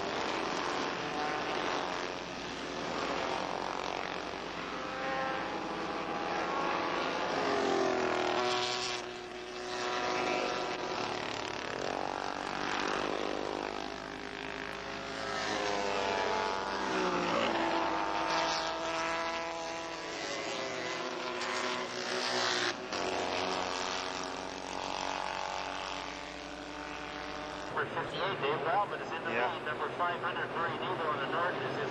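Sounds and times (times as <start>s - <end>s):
racing motorcycles passing: 0.0s - 31.9s.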